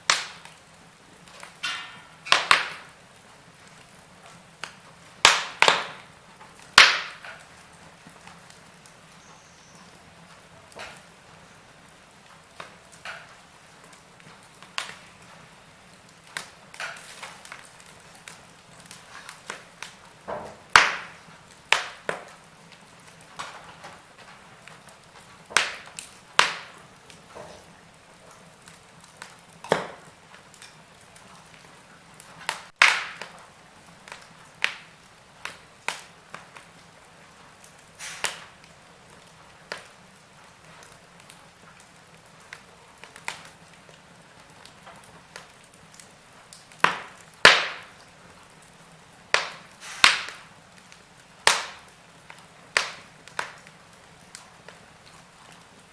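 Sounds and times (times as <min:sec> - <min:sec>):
faint steady hiss: 0:00.0 - 0:55.9
wood fire crackling: 0:00.0 - 0:55.9.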